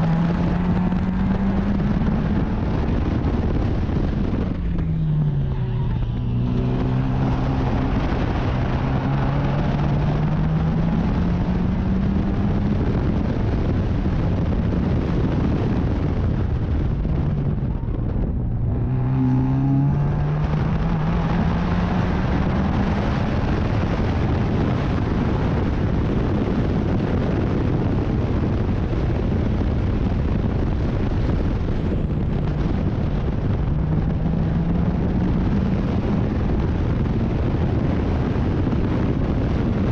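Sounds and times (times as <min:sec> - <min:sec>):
racing car engine accelerating: 0:00.0 - 0:39.9
wind and road noise: 0:00.0 - 0:39.9.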